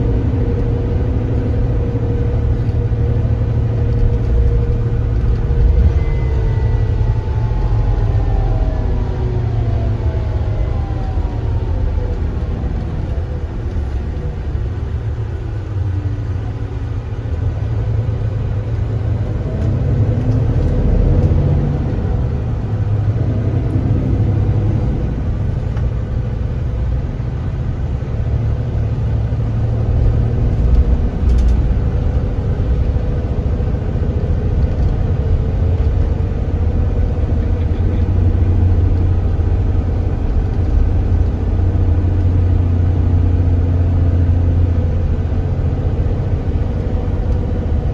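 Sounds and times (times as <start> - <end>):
bus engine rumbling: 0.0 - 47.9.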